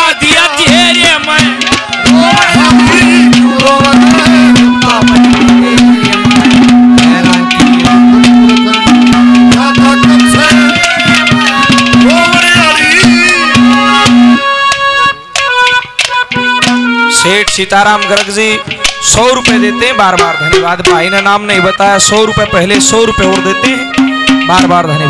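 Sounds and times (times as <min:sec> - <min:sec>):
fast hand drum rhythm: 0:00.0 - 0:14.4, 0:15.4 - 0:25.0
wavering melody line: 0:00.2 - 0:25.0.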